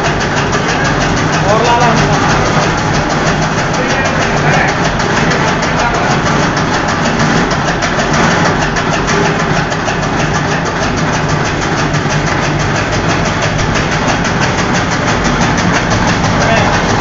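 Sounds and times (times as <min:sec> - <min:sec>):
blades clattering: 0:00.0 - 0:17.0
chaff cutter humming: 0:00.0 - 0:17.0.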